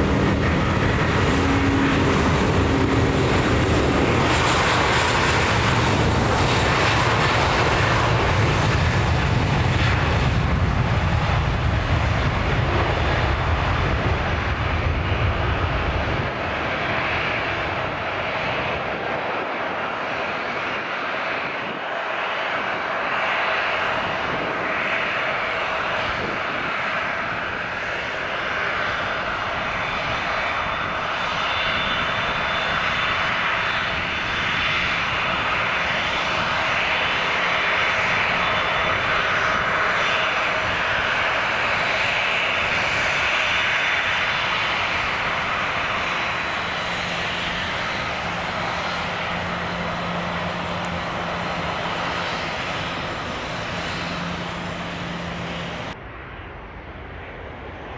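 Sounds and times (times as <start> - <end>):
high engine whine: 0.0 - 57.9
jet engines roaring: 0.0 - 57.9.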